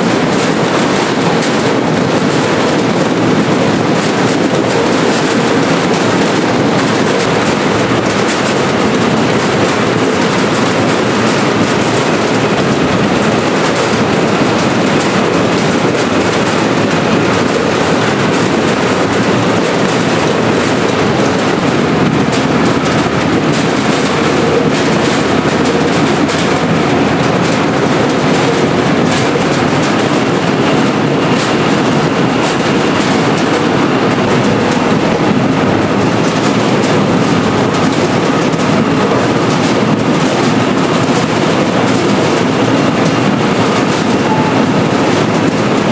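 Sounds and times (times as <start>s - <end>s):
potato cutting machine rattling: 0.0s - 44.2s.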